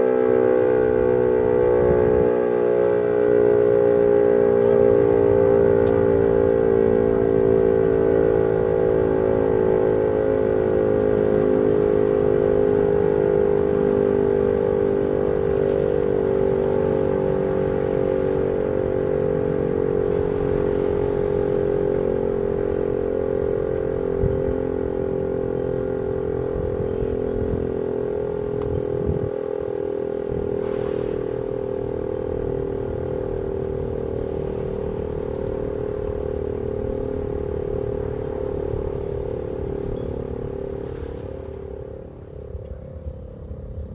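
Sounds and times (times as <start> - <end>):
outdoor warning siren steady tone: 0.0 - 43.9.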